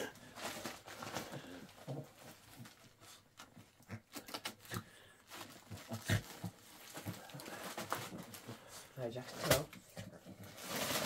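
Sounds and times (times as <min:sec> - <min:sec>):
wrapping paper crinkling and tearing: 0:00.0 - 0:03.5, 0:04.1 - 0:09.8, 0:10.4 - 0:11.0.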